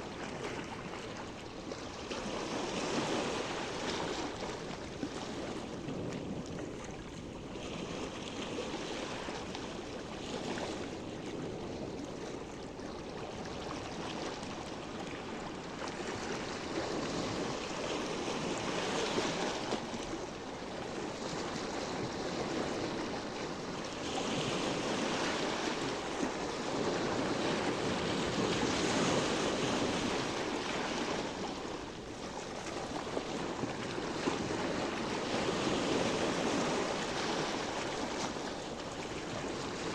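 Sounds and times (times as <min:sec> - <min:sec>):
sea waves washing ashore: 0:00.0 - 0:39.9
wind on microphone: 0:00.0 - 0:39.9.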